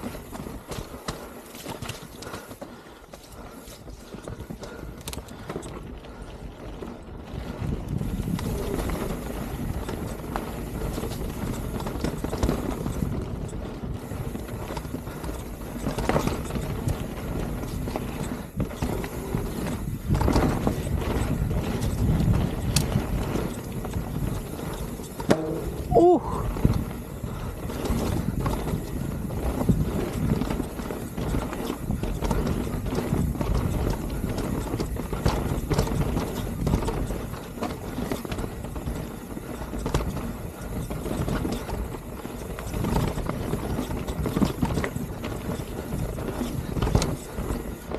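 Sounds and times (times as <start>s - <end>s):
bike rattling over rough trail: 0.0s - 47.9s.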